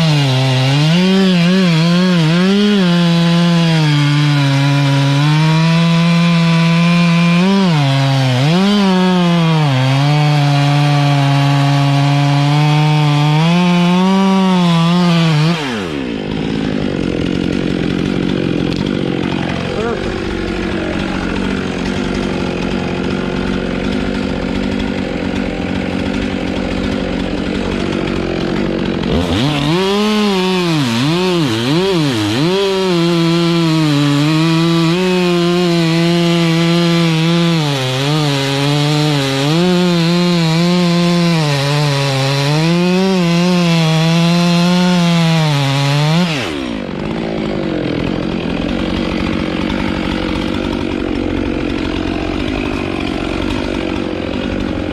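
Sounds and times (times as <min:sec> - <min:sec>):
chainsaw running and cutting wood: 0:00.0 - 0:54.9.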